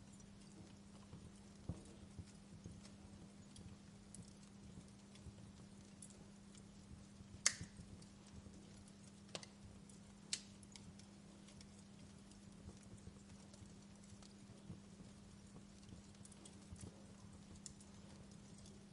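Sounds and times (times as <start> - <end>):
faint steady hum: 0.0 - 18.9
wood fire crackling in fireplace: 0.0 - 18.9.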